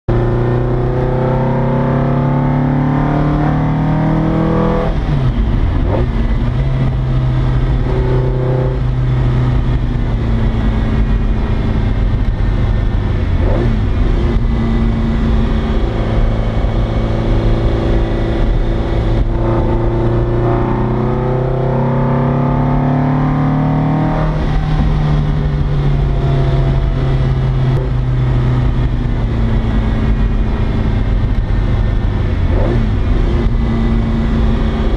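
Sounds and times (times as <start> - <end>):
racing engine revving: 0.1 - 34.9.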